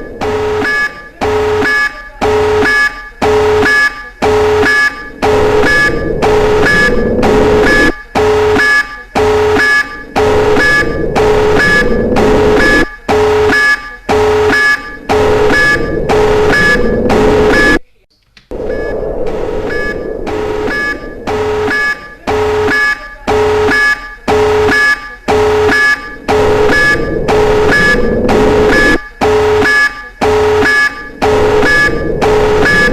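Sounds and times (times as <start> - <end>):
pulsing two-tone electronic alarm: 0.0 - 17.8, 18.5 - 32.9.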